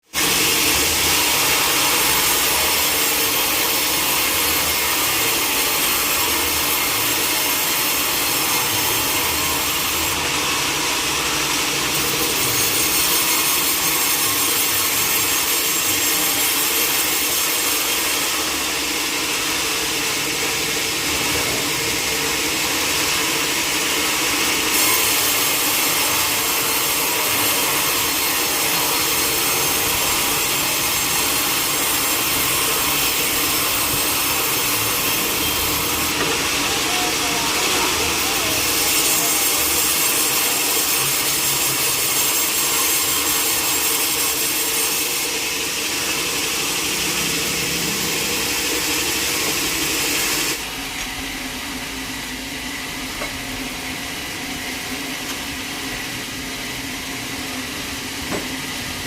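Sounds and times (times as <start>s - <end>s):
saw cutting through log: 0.0s - 50.8s.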